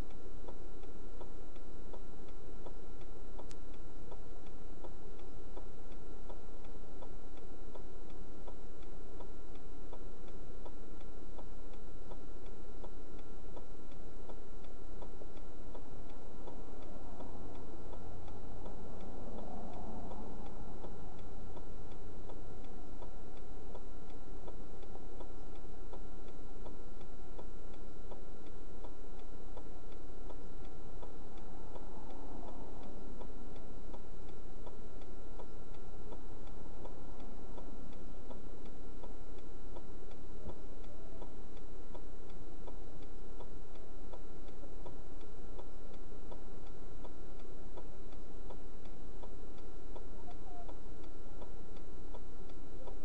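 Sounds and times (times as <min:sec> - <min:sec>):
electrical hum: 0:00.0 - 0:53.0
steady ticking inside car: 0:00.0 - 0:53.0.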